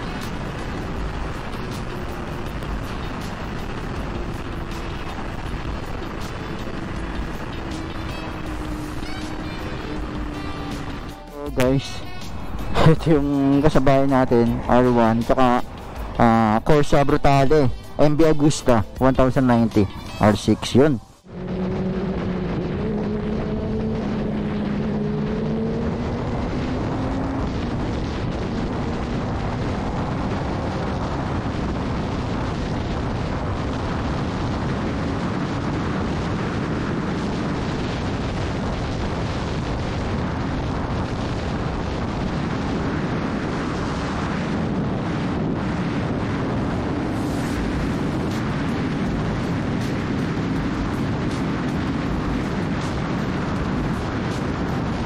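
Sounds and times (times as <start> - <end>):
wind noise on microphone: 0.0 - 20.5, 21.2 - 55.0.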